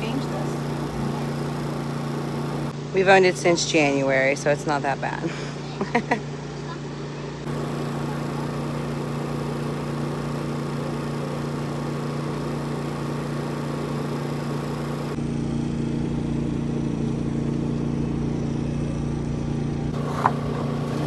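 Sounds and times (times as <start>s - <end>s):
motor droning: 0.0s - 21.0s.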